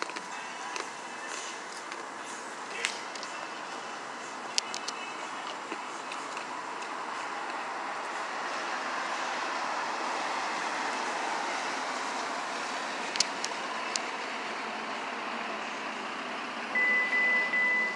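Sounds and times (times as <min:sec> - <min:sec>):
street traffic noise: 0:00.0 - 0:17.9.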